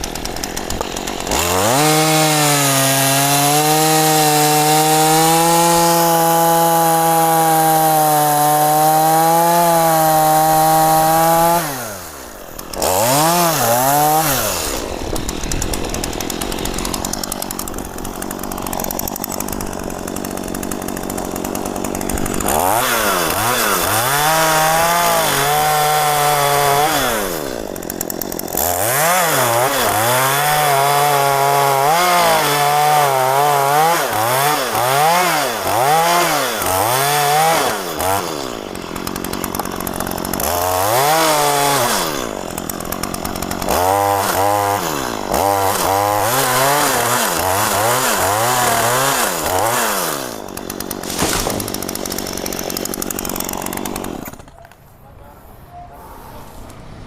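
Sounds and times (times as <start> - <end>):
chainsaw cutting a tree: 0.0 - 54.8.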